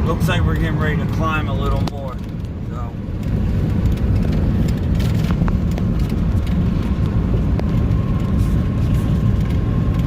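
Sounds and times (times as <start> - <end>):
diesel truck engine rumbling: 0.0 - 10.0
road noise: 0.0 - 10.0.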